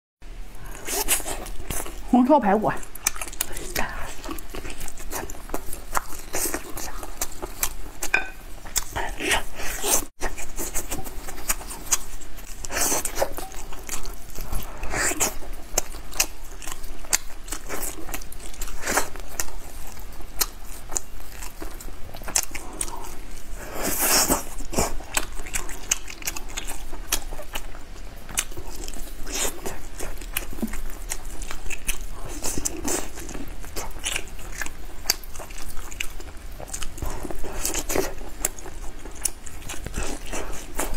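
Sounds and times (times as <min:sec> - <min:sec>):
chewing meat with wet clicks: 0:02.8 - 0:09.0, 0:11.0 - 0:23.2, 0:24.5 - 0:40.9.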